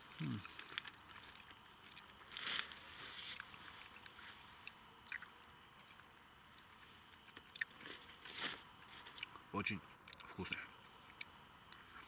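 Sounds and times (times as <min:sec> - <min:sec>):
person chewing juicy fruit: 0:00.0 - 0:12.0.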